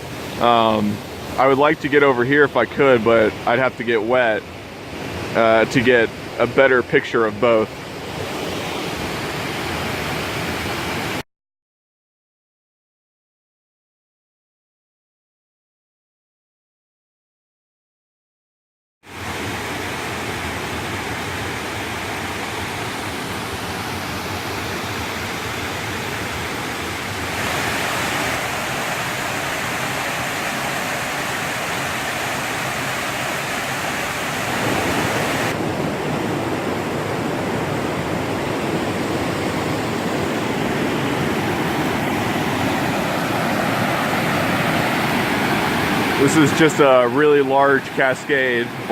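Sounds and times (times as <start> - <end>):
rushing whitewater: 0.0 - 11.2, 19.1 - 48.9.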